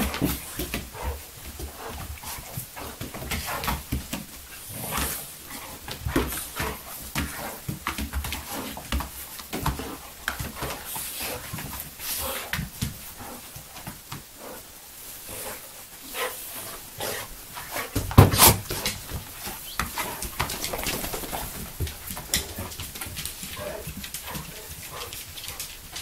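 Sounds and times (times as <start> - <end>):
paws scuffling on vinyl floor: 0.0 - 26.0.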